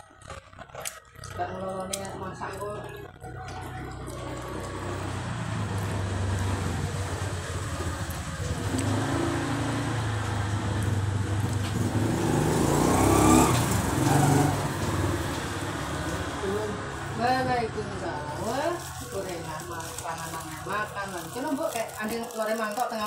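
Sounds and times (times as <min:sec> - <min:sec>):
vehicle engine passing by: 0:02.1 - 0:22.2.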